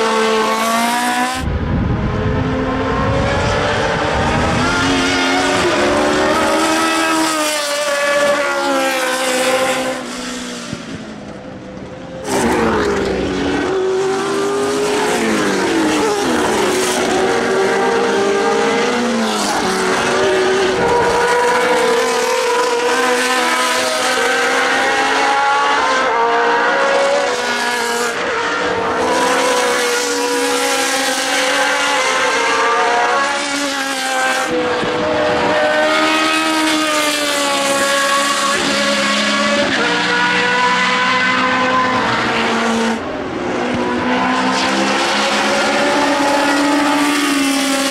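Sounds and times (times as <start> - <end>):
racing car engines revving: 0.0 - 47.9.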